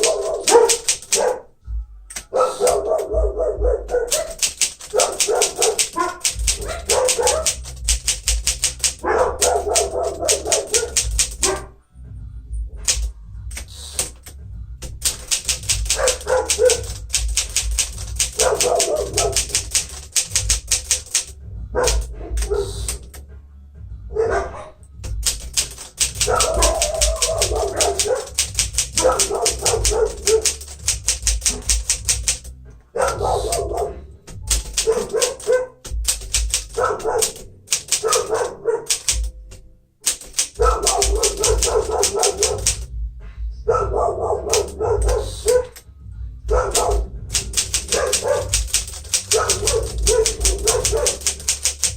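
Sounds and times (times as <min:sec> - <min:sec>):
manual typewriter typing: 0:00.0 - 0:01.4, 0:02.1 - 0:03.1, 0:03.8 - 0:11.7, 0:12.8 - 0:23.2, 0:25.0 - 0:42.9, 0:44.5 - 0:45.8, 0:46.5 - 0:51.9.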